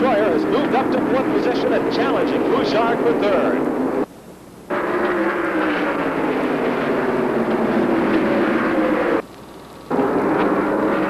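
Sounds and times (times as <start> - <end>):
race car engines at speed: 0.0 - 4.1, 4.7 - 11.0.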